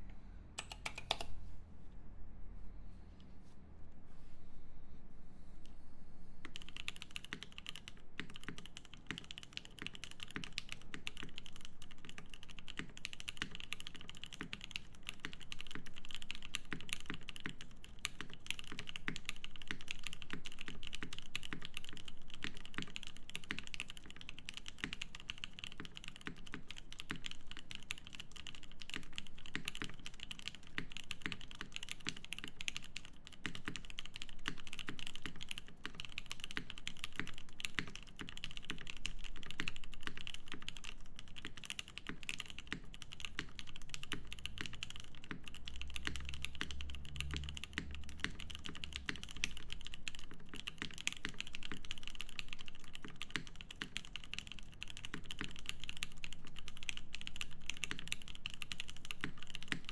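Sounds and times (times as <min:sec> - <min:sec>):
fast mechanical keyboard typing: 0:00.6 - 0:01.3, 0:06.5 - 0:59.9.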